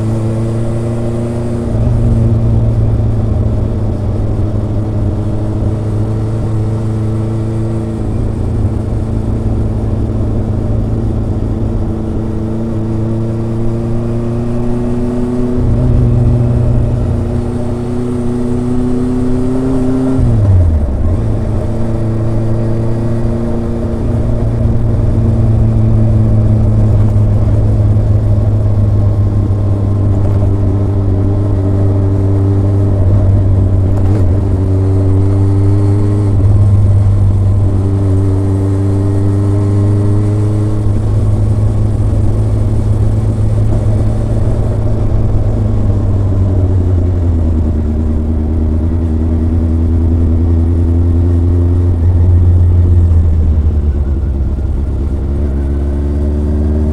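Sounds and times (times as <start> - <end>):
motorcycle engine and exhaust drone: 0.0 - 56.9.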